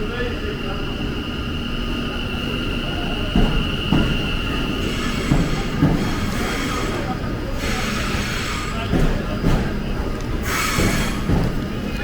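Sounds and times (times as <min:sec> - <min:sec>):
low train rumble: 0:00.0 - 0:12.0
train wheels squealing: 0:00.6 - 0:09.6, 0:10.4 - 0:11.4.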